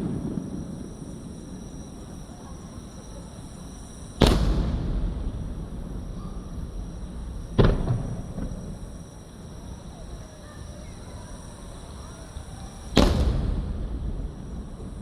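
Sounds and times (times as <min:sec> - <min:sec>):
firework bursts with rolling echo: 0:00.0 - 0:15.0.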